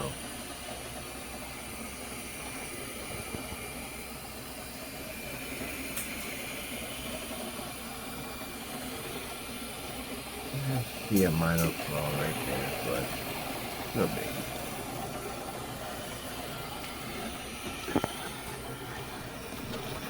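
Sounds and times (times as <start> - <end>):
faint high whine: 0.0 - 20.0
printer fans and motors whirring: 0.0 - 20.0.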